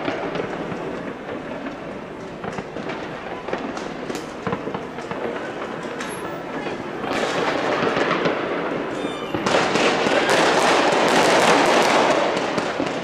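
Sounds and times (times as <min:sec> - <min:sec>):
firework pops and bangs: 0:00.0 - 0:13.0
fireworks crackling: 0:00.0 - 0:13.0.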